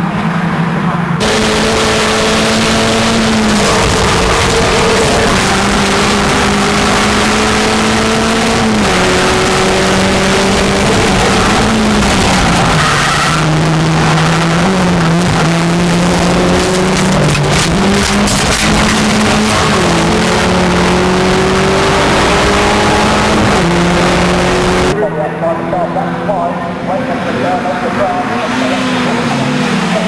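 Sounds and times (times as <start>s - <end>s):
racing car engine running hard: 0.0s - 30.0s.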